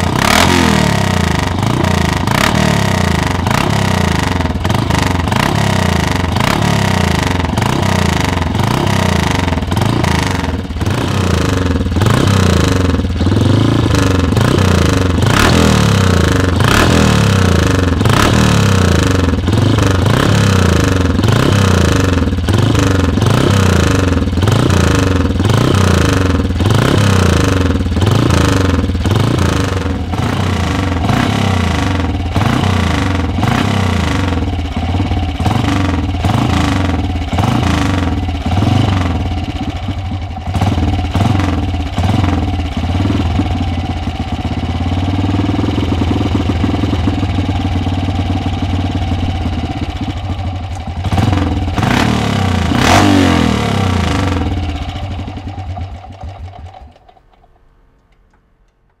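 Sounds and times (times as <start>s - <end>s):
motorcycle engine revving: 0.0s - 57.4s.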